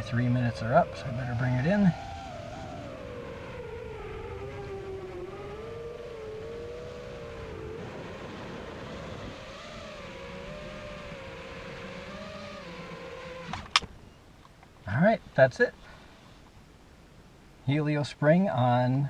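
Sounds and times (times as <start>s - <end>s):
drone motors and propellers whining: 0.0s - 17.6s.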